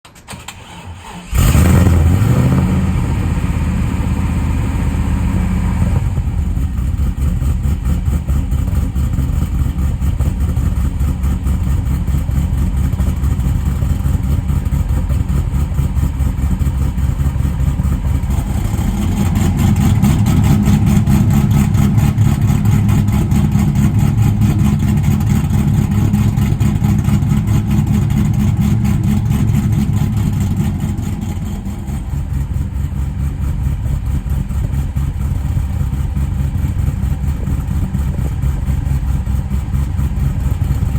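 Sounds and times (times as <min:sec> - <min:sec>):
car engine starting and idling: 0:00.0 - 0:40.9.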